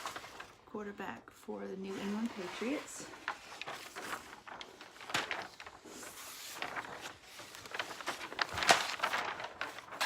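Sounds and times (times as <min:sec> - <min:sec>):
canvas and plastic film crinkling: 0:00.0 - 0:01.2, 0:01.8 - 0:10.0.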